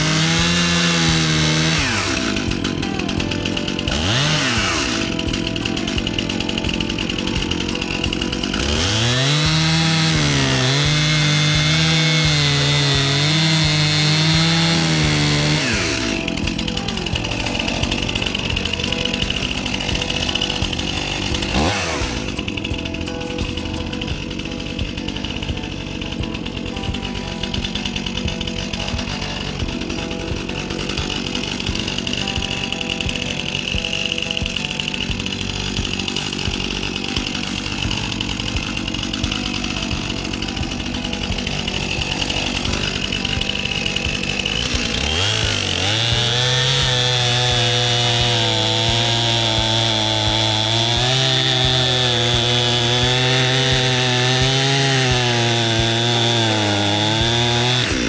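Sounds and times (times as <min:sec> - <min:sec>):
chain cutting into wood: 0:00.0 - 0:58.0
chainsaw engine revving: 0:00.0 - 0:58.0.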